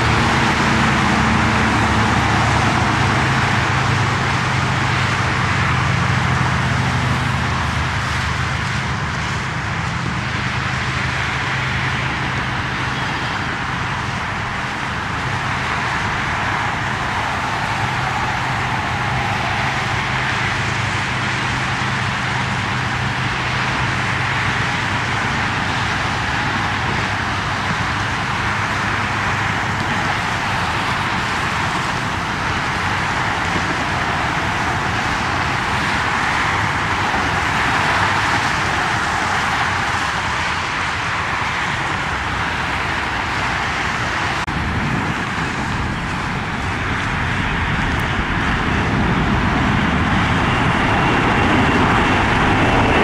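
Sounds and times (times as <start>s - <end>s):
distant jet engines rushing: 0.0s - 53.0s.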